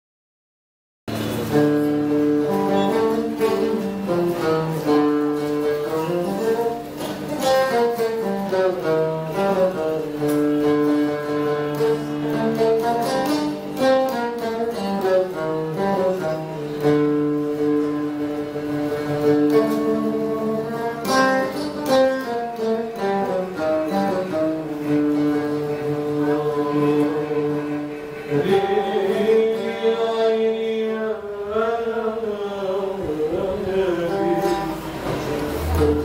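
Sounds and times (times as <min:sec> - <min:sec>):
solo oud melody: 0:01.1 - 0:36.0.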